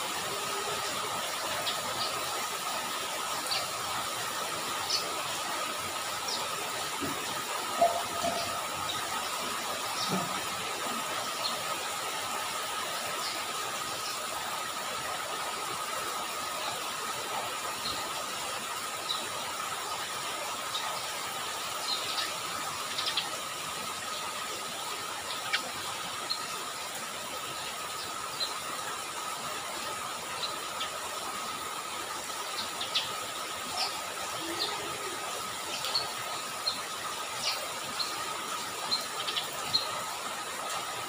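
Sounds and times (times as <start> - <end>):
rain falling on puddles: 0.0 - 41.0.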